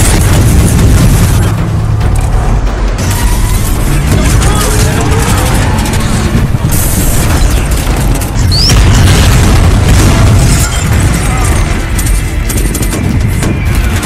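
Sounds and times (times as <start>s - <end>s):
booming low rumble: 0.0s - 14.0s
film score: 0.0s - 14.0s.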